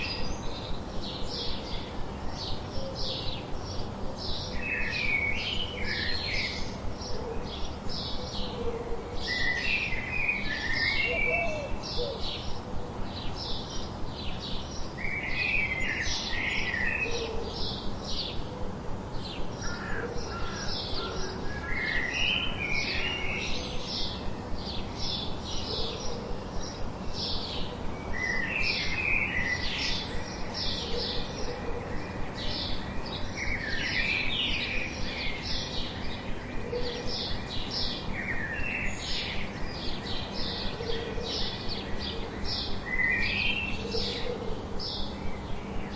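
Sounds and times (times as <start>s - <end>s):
birds chirping: 0.0s - 45.9s
faint steady hum: 0.0s - 45.9s.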